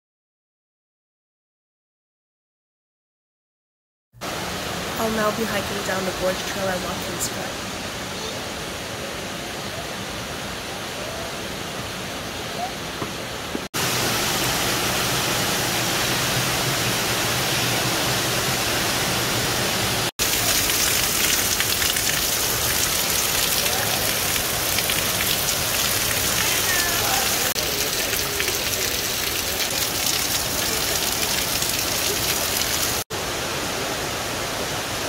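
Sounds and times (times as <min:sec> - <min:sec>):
waterfall rushing: 0:04.2 - 0:35.0.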